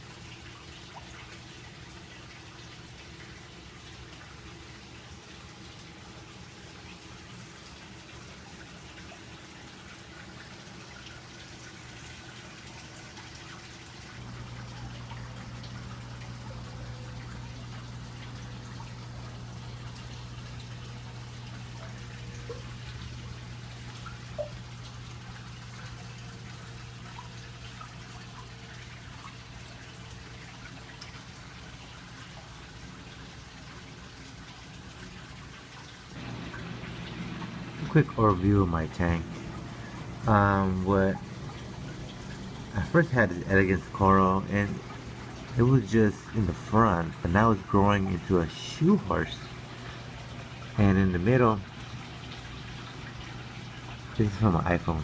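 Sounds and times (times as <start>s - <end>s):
low pump hum: 0.0s - 55.0s
water trickling and splashing: 0.0s - 55.0s.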